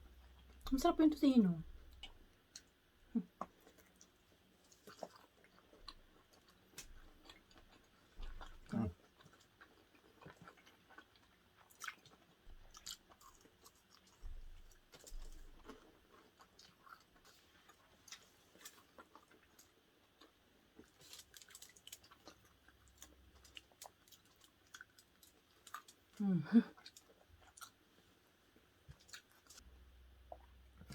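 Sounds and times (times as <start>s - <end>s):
people chewing and eating: 1.7s - 30.9s.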